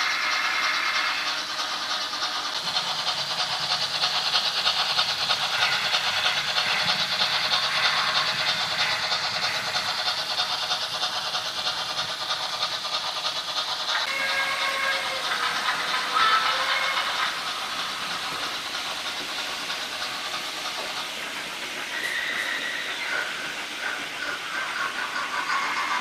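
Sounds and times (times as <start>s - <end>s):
model train rattling on rails: 0.0s - 26.0s.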